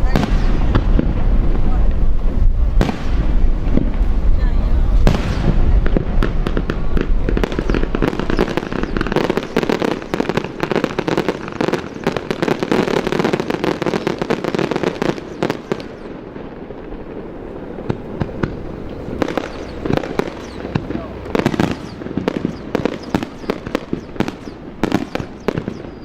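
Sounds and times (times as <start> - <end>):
fireworks pops and crackles: 0.0 - 26.0
fireworks sharp bangs: 0.0 - 26.0.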